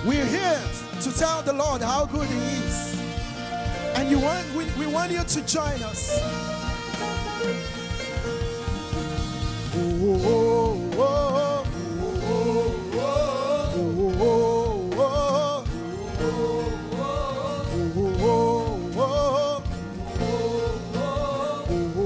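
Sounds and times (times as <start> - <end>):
person singing gospel: 0.0 - 7.0, 9.6 - 22.0
band accompaniment: 0.0 - 22.0.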